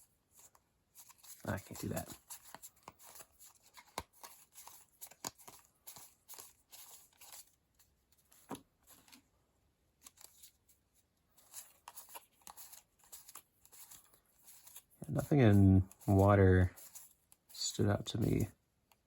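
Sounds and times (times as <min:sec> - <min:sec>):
trading cards clicking and rustling: 0:01.0 - 0:09.2, 0:10.0 - 0:10.6, 0:11.4 - 0:18.5.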